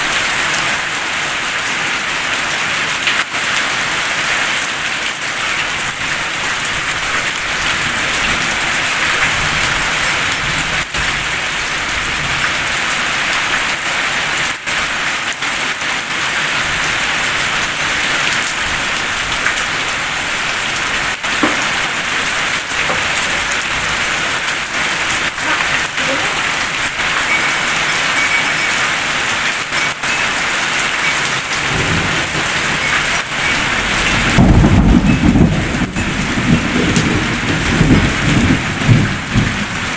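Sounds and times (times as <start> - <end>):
heavy rain on tiled roofs: 0.0 - 39.9.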